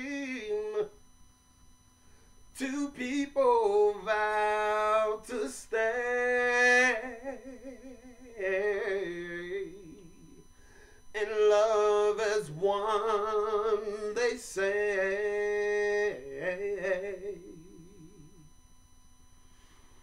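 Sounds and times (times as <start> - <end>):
man singing unaccompanied: 0.0 - 1.0, 2.5 - 10.5, 11.1 - 18.5.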